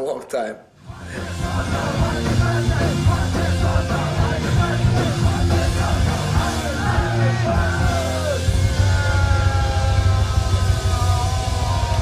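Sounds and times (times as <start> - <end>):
punk band playing live: 0.8 - 12.0.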